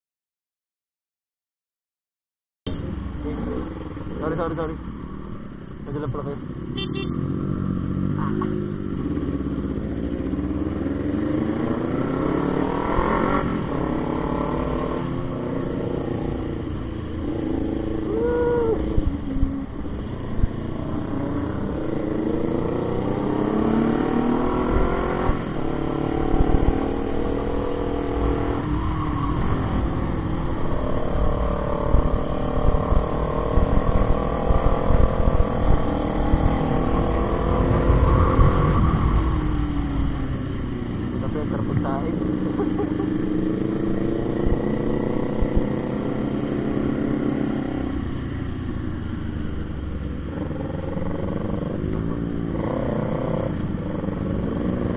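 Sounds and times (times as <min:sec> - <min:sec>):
motorcycle engine accelerating: 0:06.6 - 0:54.9
wind rumble on microphone: 0:07.6 - 0:54.9.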